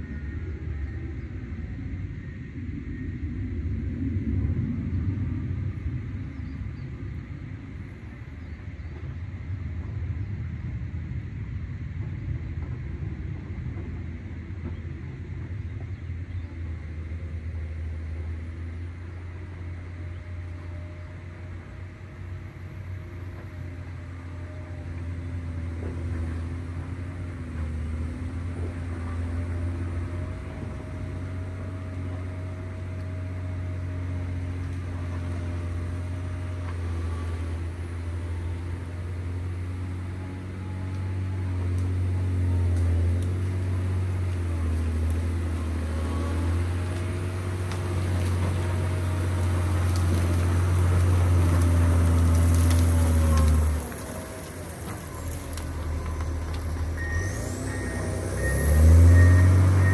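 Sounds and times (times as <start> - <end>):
diesel engine droning: 0.0 - 59.9
faint whine: 0.0 - 59.9.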